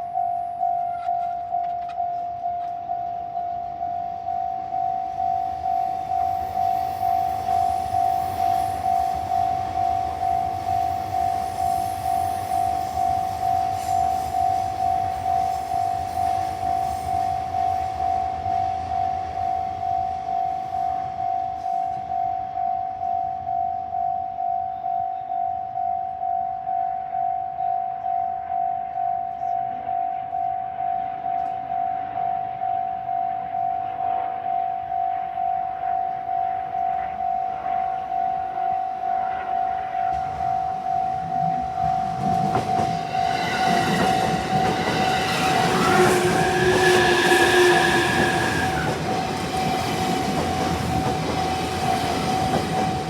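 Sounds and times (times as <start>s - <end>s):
level crossing warning bell: 0.0s - 53.0s.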